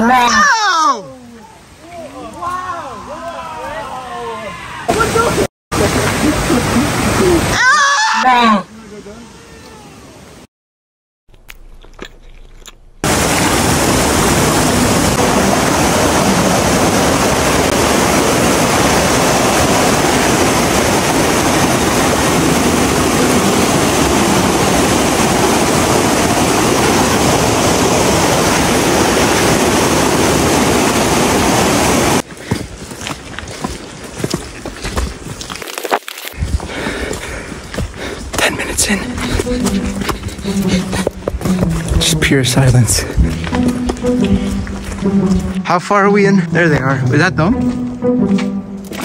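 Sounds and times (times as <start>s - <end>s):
rush of falling water: 0.0s - 10.5s, 13.0s - 45.0s.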